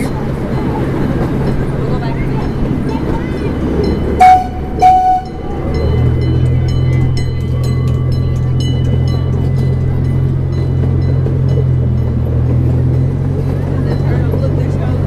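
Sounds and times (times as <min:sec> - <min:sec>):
miniature train droning: 0:00.0 - 0:15.0
train cars clicking and rattling: 0:00.0 - 0:15.0.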